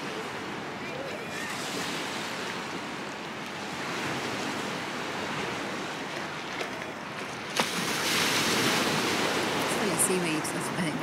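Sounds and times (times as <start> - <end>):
small waves washing ashore: 0.0 - 11.0.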